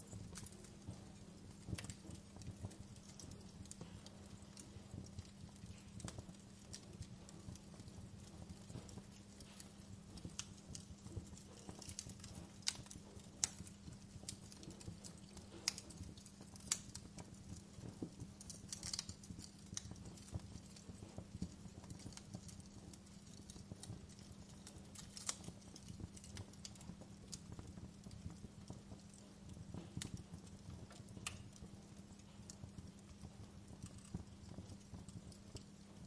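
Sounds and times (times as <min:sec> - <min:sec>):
faint steady hum: 0:00.0 - 0:36.0
wood fire crackling: 0:00.0 - 0:36.0.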